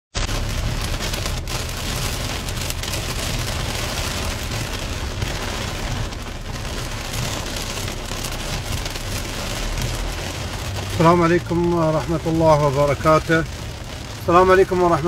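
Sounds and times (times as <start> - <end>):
rain hitting car windscreen: 0.1 - 15.0
low rumble: 0.2 - 14.2.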